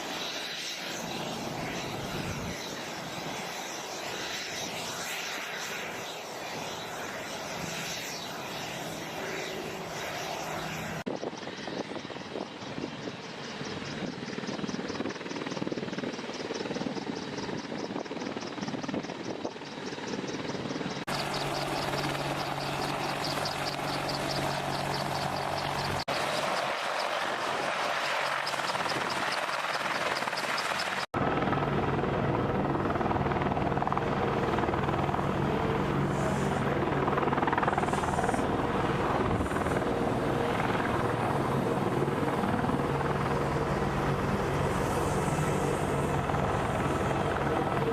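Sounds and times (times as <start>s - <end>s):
helicopter engine drone: 0.0s - 47.9s
helicopter rotor pulsing: 0.0s - 47.9s.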